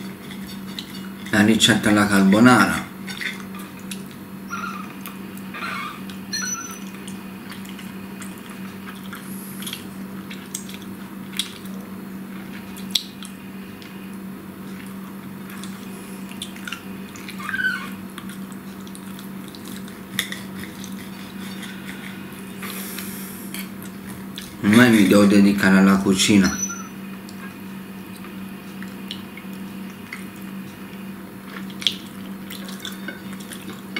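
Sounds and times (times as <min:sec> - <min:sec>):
man chewing food: 0:00.0 - 0:01.4, 0:02.9 - 0:25.0, 0:26.7 - 0:33.9
steady low hum: 0:00.0 - 0:33.9.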